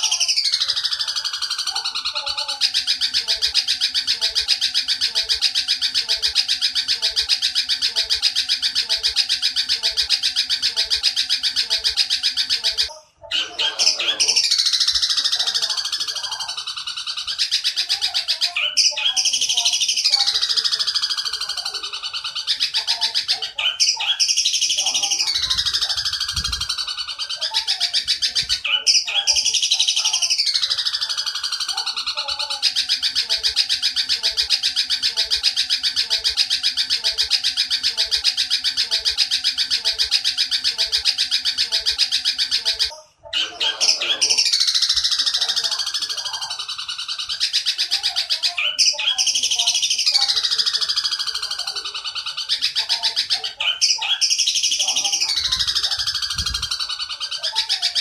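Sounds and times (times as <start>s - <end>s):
fast bird chatter: 0.0s - 58.0s
high falling squealing bird calls: 0.0s - 58.0s.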